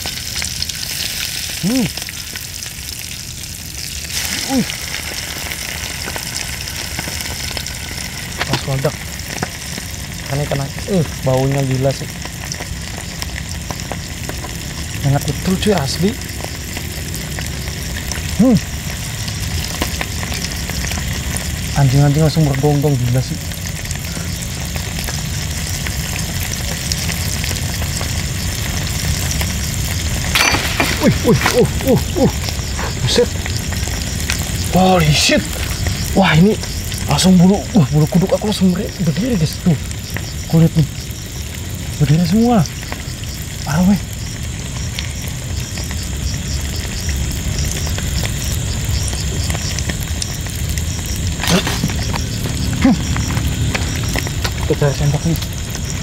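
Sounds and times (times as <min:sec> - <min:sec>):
fish sizzling in hot oil: 0:00.0 - 0:56.0
oil crackling: 0:00.0 - 0:56.0.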